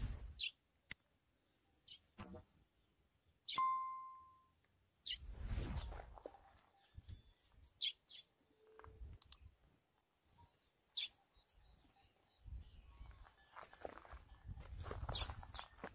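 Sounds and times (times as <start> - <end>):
faint bird chirps: 1.3 - 15.9.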